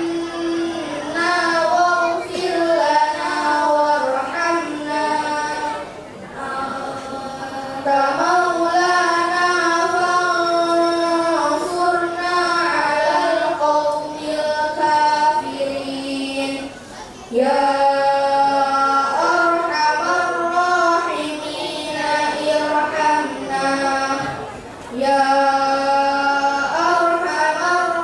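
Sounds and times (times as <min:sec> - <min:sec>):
children chanting into microphones: 0:00.0 - 0:28.0.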